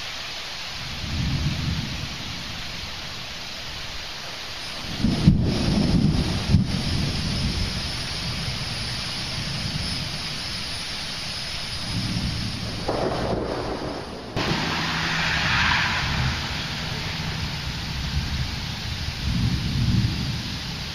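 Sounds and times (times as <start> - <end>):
heavy rain hiss: 0.0 - 20.9
thunder rumbling: 0.8 - 4.0, 4.8 - 20.9.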